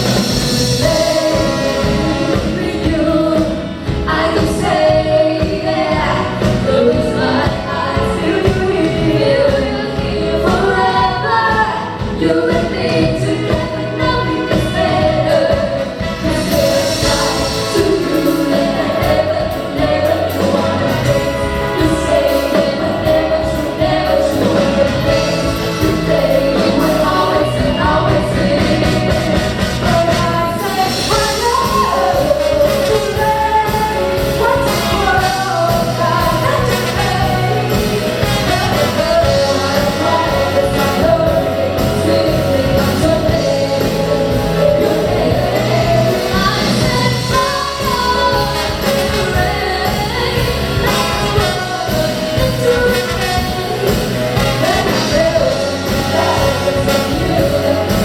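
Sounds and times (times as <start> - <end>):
bass: 0.0 - 58.0
drums: 0.0 - 58.0
keyboards: 0.0 - 58.0
vocalists singing: 0.0 - 58.0.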